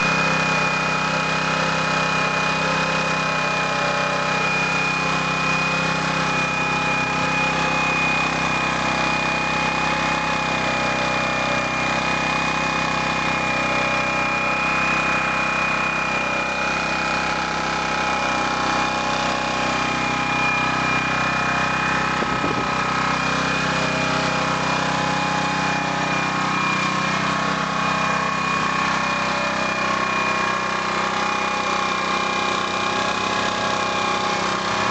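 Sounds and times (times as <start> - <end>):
constant high whine: 0.0 - 31.8
generator engine idling: 0.0 - 34.9.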